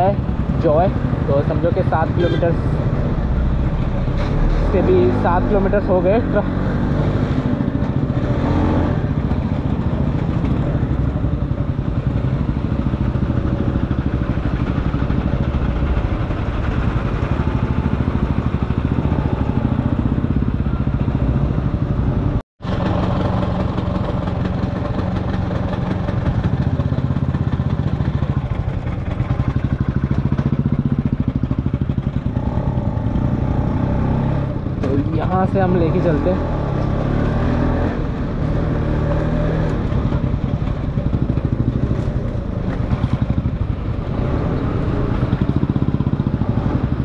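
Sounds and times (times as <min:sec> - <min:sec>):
scooter engine at low speed: 0:00.0 - 0:47.0
traffic engines: 0:00.0 - 0:47.0.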